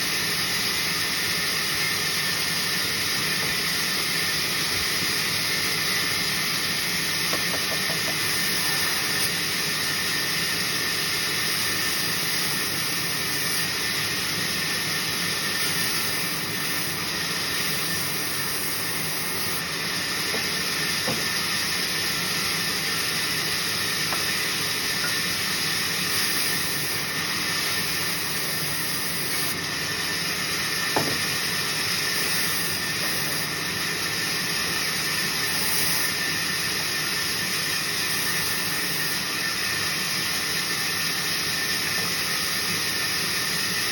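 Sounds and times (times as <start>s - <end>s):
saw machine running: 0.0s - 43.9s.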